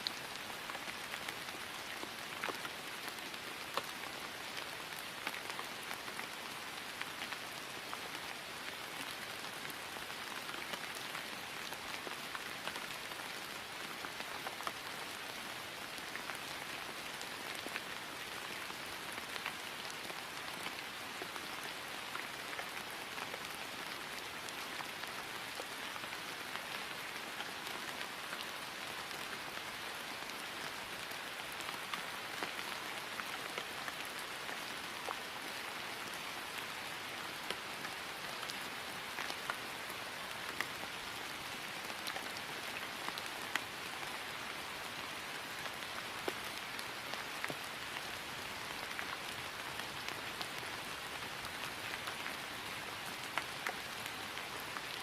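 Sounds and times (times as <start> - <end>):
rain falling on grass: 0.0 - 55.0.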